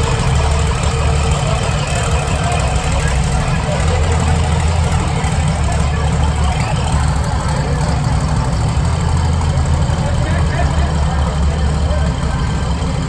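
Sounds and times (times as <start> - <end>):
buggy engine idling: 0.0 - 13.0.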